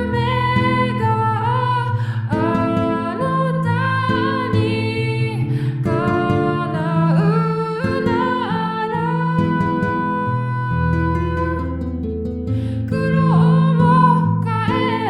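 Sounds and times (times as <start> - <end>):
plucked-string chords: 0.0 - 15.0.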